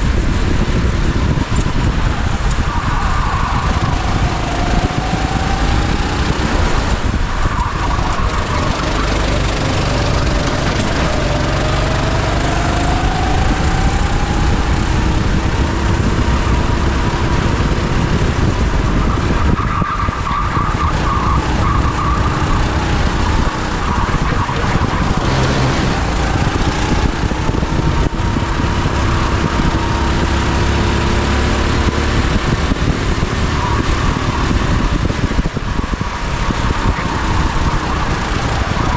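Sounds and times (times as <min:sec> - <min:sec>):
go-kart engine revving: 0:00.0 - 0:38.9
steady rushing noise: 0:00.0 - 0:38.9.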